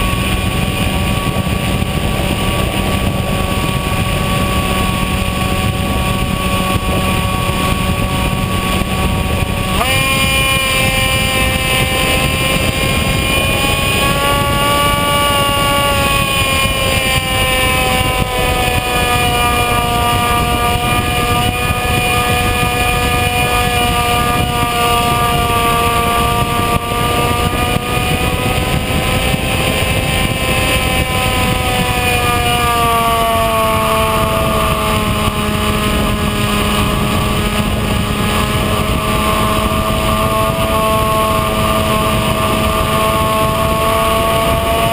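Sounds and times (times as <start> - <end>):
electric motor propeller whine: 0.0 - 44.9
wind noise on microphone: 0.0 - 44.9.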